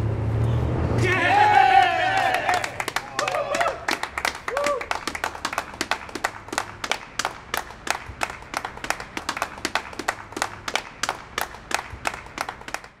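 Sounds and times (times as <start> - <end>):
people clapping unevenly: 1.8 - 13.0.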